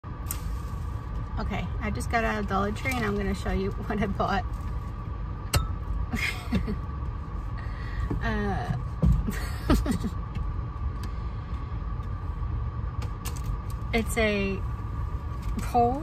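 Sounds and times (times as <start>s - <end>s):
low car cabin hum: 0.0s - 16.0s.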